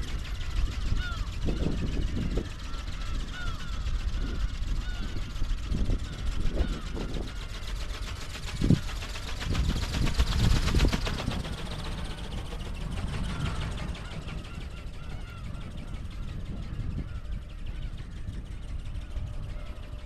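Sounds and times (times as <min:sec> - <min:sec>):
film wings flapping: 0:00.0 - 0:17.5
wind rumbling on microphone: 0:00.0 - 0:20.0.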